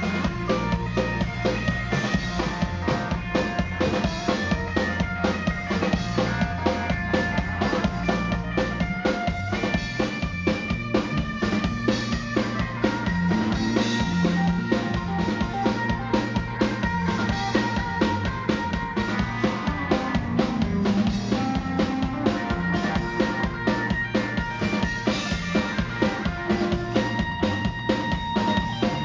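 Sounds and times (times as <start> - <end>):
drum kit fast beat: 0.0 - 29.0
electric bass: 0.0 - 29.0
electric guitar: 0.0 - 29.0.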